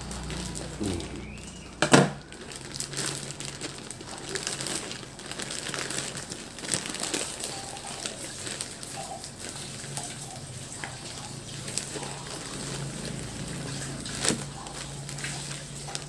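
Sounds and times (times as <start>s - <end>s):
scissors cutting plastic bag: 0.0s - 1.3s, 1.9s - 16.0s
plastic bag crinkling: 0.0s - 16.0s.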